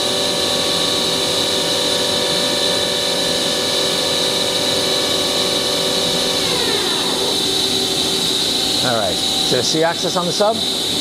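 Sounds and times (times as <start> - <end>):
lathe spindle mechanical whine: 0.0 - 11.0.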